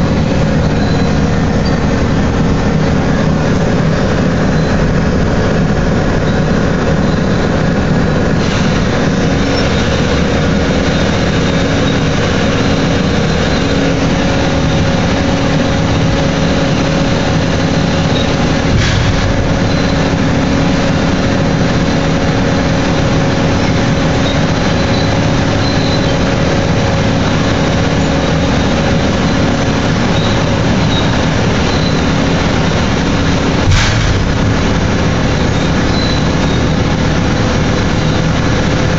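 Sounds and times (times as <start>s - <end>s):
low hydraulic hum: 0.0s - 38.9s
machinery drone: 0.0s - 38.9s.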